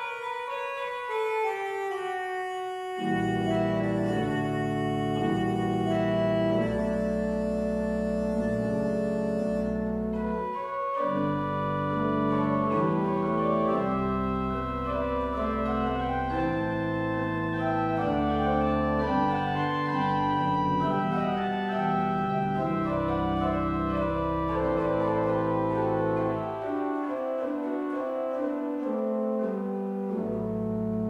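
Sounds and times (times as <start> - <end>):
pipe organ chords: 0.0 - 31.0.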